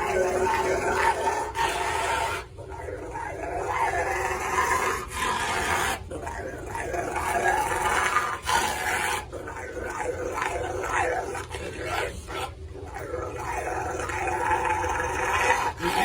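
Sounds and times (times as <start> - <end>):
dog vocalizing: 0.0 - 16.0.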